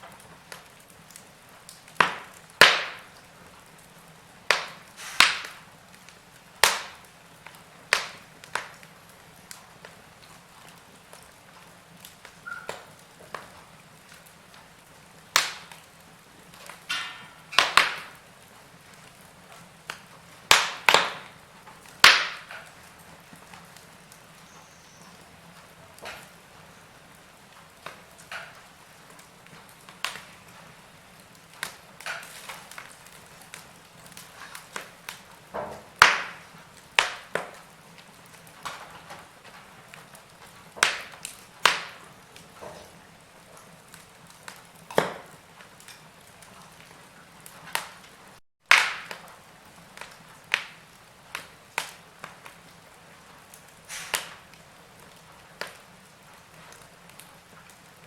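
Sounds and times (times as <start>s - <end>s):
faint steady hiss: 0.0s - 48.4s
wood fire crackling: 0.0s - 58.0s.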